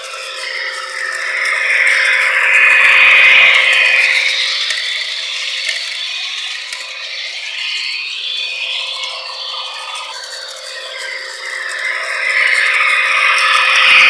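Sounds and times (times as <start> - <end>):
model train rattling on track: 0.0 - 7.6, 8.5 - 14.0.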